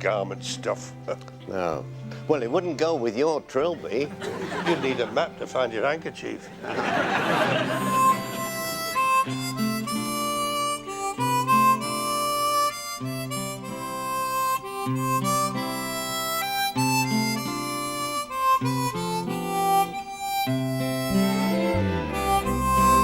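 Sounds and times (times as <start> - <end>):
harmonica-led music: 0.0 - 23.0.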